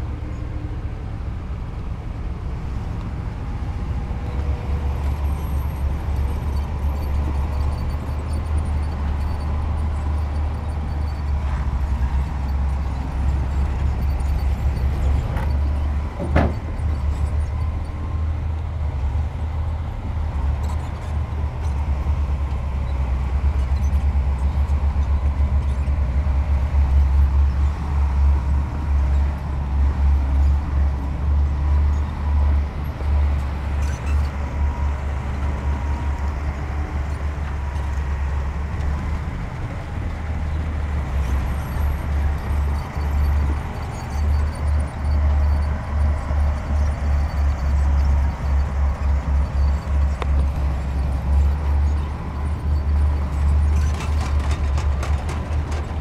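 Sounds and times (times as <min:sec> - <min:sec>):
diesel engines droning: 0:00.0 - 0:56.0.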